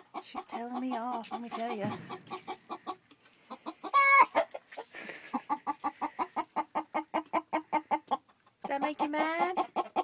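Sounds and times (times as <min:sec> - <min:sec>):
hen clucking: 0:00.0 - 0:10.0.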